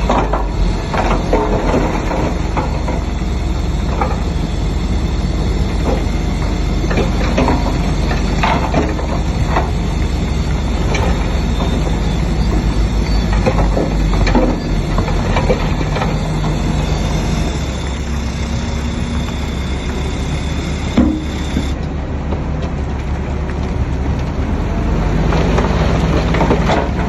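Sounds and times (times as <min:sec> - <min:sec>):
metallic clanks and squeals from tracks: 0:00.0 - 0:21.8
diesel engine hum: 0:00.0 - 0:27.0.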